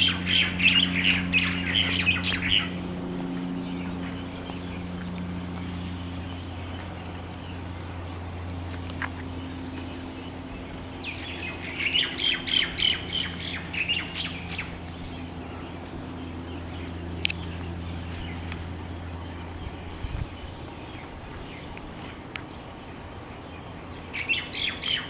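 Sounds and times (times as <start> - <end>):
harsh bird calls: 0.0 - 8.1, 9.2 - 25.0.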